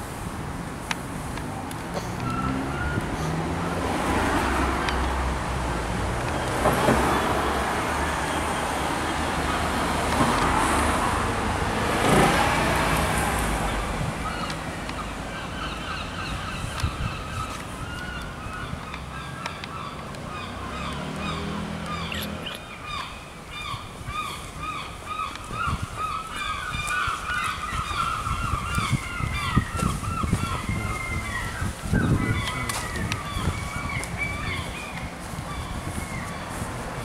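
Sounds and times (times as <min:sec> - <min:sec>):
cars passing by: 0:00.0 - 0:37.0.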